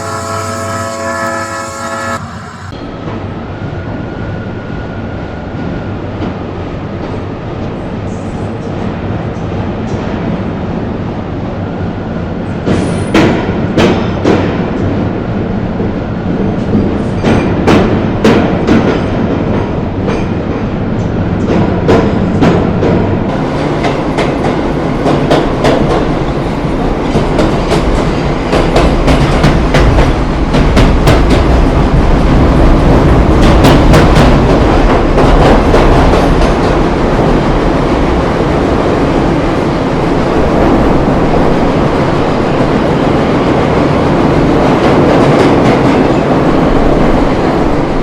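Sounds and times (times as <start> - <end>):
train rumble: 0.0 - 48.0.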